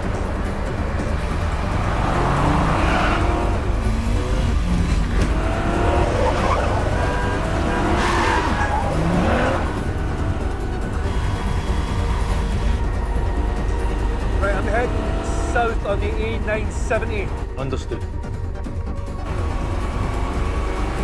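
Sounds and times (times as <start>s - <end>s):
car engines revving: 0.0s - 18.0s, 18.6s - 21.0s
background music score: 0.0s - 21.0s.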